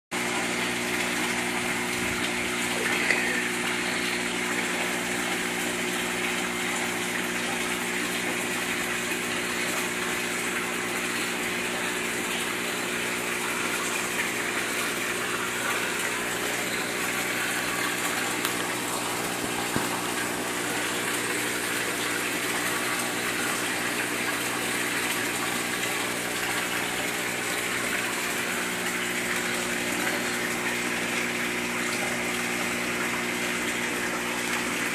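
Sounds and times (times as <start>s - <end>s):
fish tank pump humming: 0.1s - 34.9s
water rushing: 0.2s - 34.9s.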